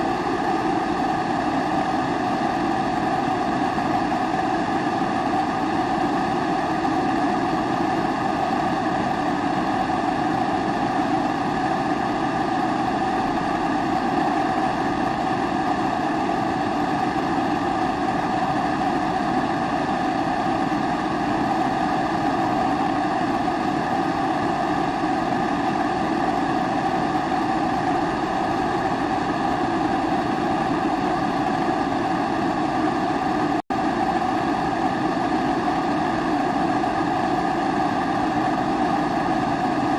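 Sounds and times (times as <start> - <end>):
stove burner flame rushing: 0.0 - 39.9.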